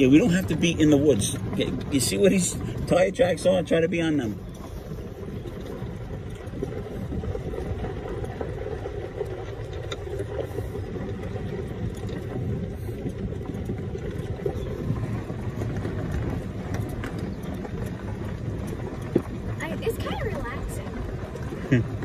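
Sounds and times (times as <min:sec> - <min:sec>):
golf cart rumbling on road: 0:00.0 - 0:22.0.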